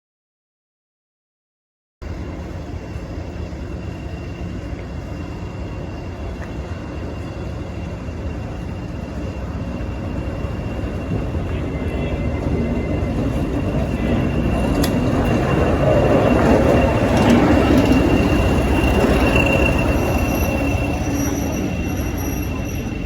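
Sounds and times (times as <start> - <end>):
diesel locomotive engine rumbling: 2.0 - 23.0
steady high whine: 2.0 - 23.0.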